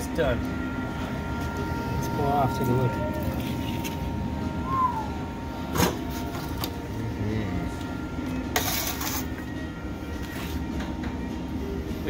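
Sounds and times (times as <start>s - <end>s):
faint steady whine: 0.0s - 12.0s
low mechanical rumble: 0.0s - 12.0s.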